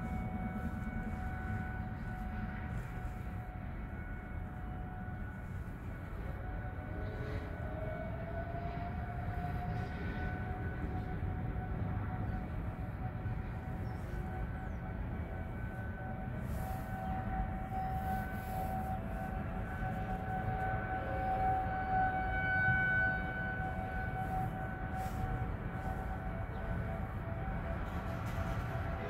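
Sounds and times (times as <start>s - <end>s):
tornado siren steady tone: 0.0s - 29.0s.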